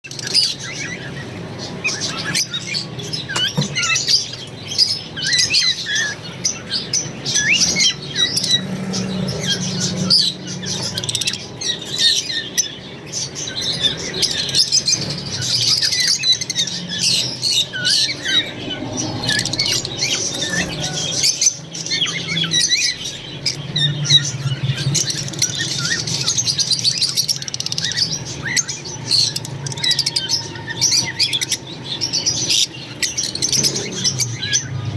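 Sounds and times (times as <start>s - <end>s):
lovebirds chirping and squawking: 0.0s - 34.9s.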